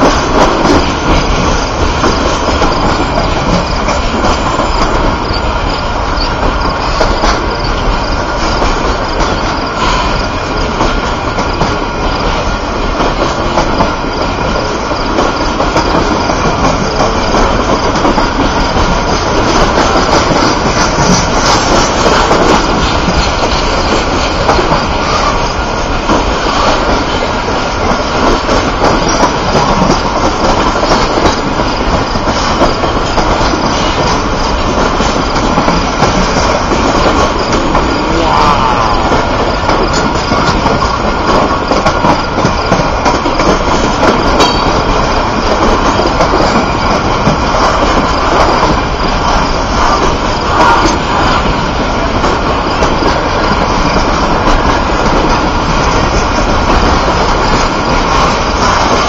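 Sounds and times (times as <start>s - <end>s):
steel wheels rumbling on rail: 0.0s - 59.0s
wheels clicking over rail joints: 0.0s - 59.0s.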